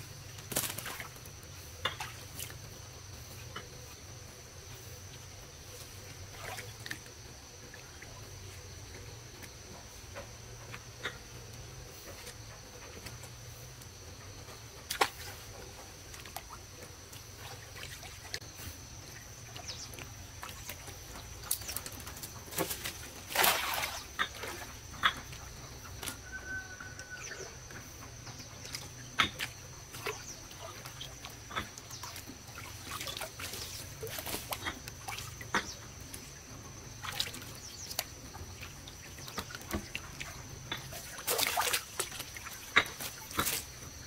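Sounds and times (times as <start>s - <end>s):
water splashing and sloshing: 0.0s - 44.0s.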